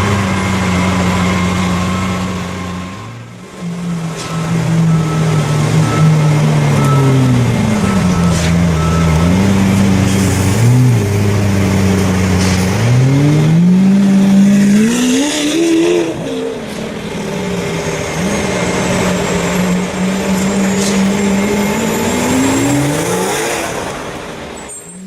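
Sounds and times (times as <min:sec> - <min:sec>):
sports car engine revving: 0:00.0 - 0:24.4.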